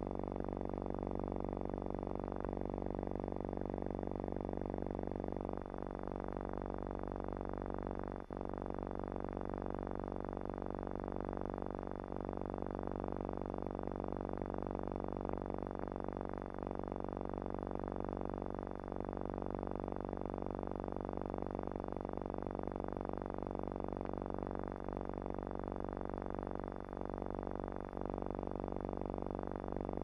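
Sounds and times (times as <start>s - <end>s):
electrical buzzing hum: 0.0s - 30.0s.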